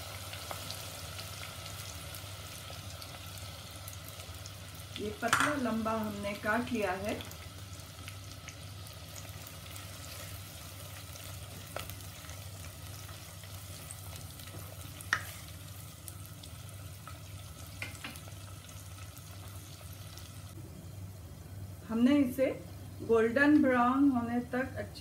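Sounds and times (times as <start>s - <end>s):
onions sizzling in hot oil: 0.0s - 24.2s.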